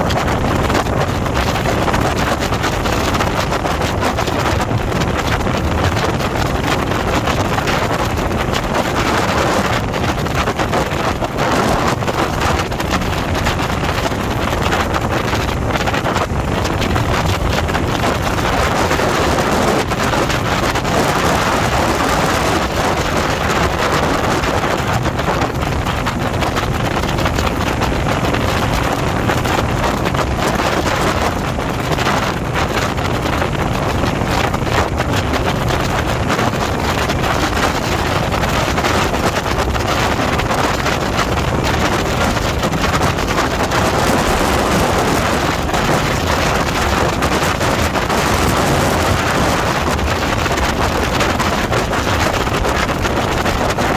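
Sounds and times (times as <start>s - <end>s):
motorcycle engine drone: 0.0s - 53.9s
road noise: 0.0s - 53.9s
wind buffeting microphone: 0.0s - 53.9s.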